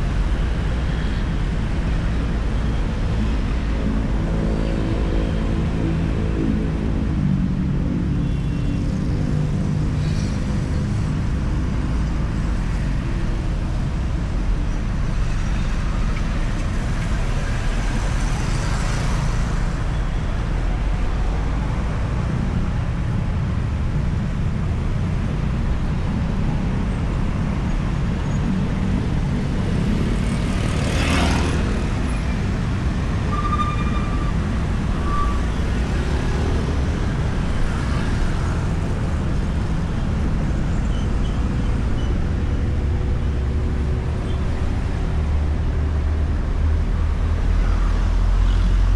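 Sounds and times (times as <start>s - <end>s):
highway traffic rumble: 0.0s - 48.9s.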